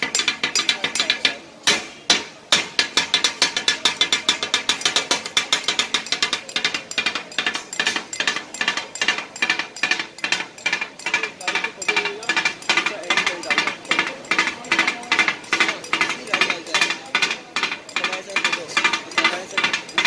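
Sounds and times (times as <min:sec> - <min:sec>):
steel blades clanking on griddle: 0:00.0 - 0:02.0, 0:02.6 - 0:20.0.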